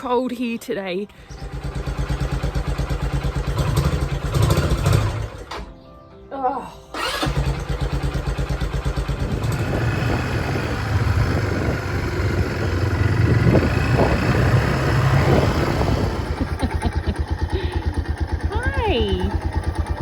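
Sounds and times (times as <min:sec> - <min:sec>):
small engine puttering: 0:01.2 - 0:05.7, 0:06.9 - 0:20.0.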